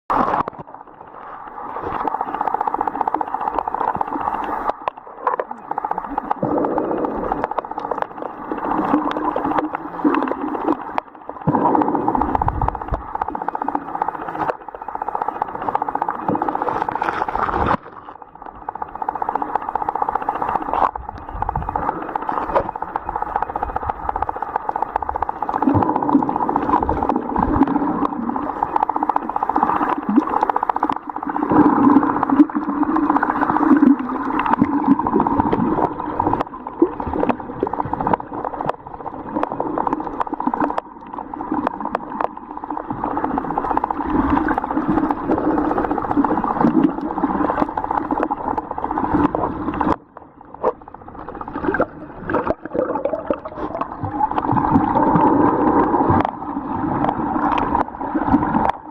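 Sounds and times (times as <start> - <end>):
underwater water drone: 0.1 - 58.9
scattered clicks: 1.9 - 58.9.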